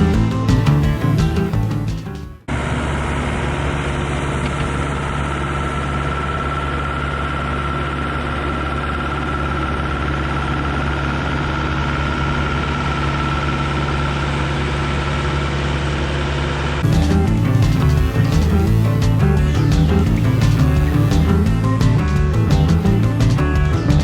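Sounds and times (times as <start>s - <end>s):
heavy equipment engine drone: 0.0s - 24.0s
high whine: 0.0s - 24.0s.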